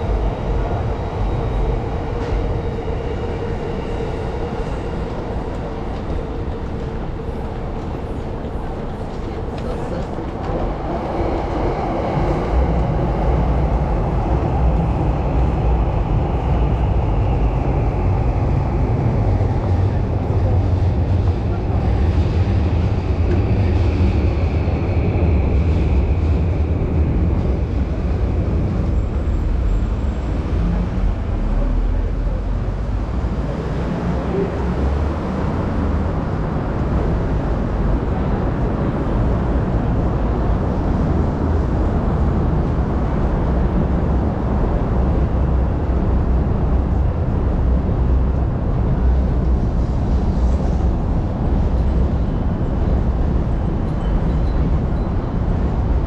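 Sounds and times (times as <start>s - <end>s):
city traffic rumble: 0.0s - 56.0s
elevated trains rumbling: 0.0s - 56.0s.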